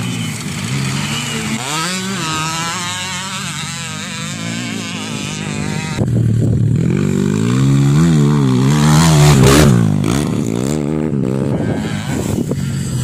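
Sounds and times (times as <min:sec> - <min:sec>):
dirt bike revving: 0:00.0 - 0:13.0
distant dirt bike engine: 0:00.0 - 0:13.0.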